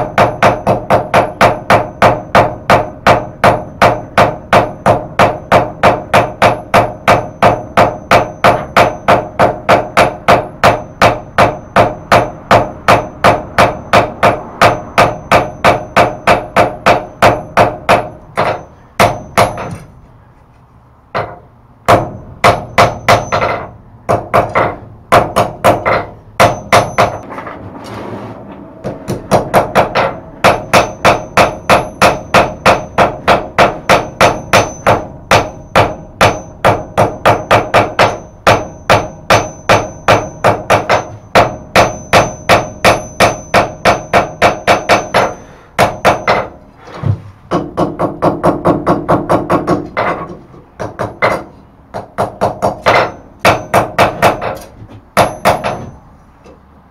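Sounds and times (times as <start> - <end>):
hammer striking steel on anvil: 0.0 - 20.0, 21.1 - 27.5, 28.8 - 46.6, 50.8 - 56.1.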